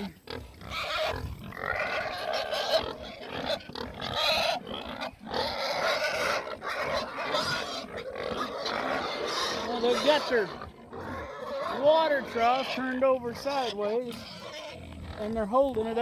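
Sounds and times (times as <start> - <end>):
pigs squealing and grunting: 0.0 - 16.0.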